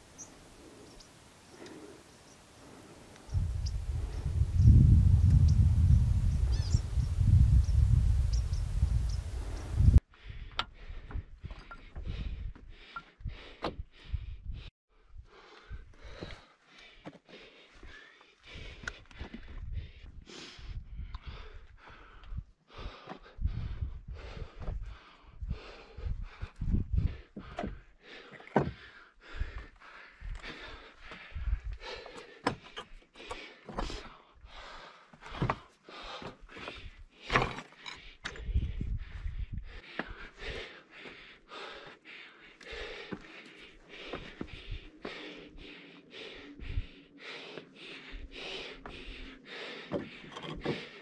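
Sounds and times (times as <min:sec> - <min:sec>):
heavy breathing: 0:00.4 - 0:06.3, 0:08.8 - 0:51.0.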